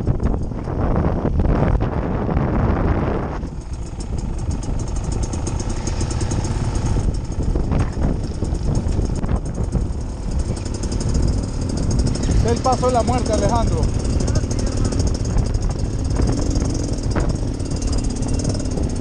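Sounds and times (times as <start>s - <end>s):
dirt bike engines at low revs: 0.0s - 19.0s.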